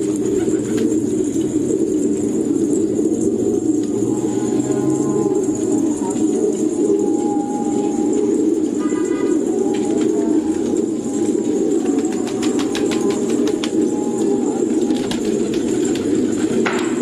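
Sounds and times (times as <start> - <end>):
pigeons cooing: 0.0 - 17.0
wings flapping: 0.0 - 17.0.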